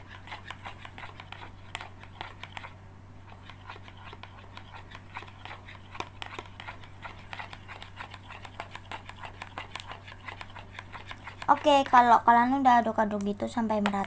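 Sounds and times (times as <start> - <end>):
spoon scraping plastic bowl: 0.0 - 12.2
steady low hum: 0.0 - 14.0.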